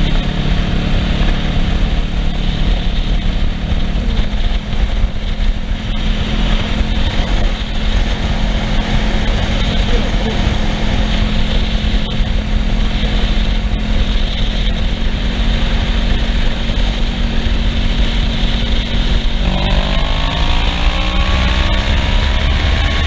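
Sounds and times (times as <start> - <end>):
motorcycle engine cruising: 0.0 - 23.0
wind rumble: 0.0 - 23.0.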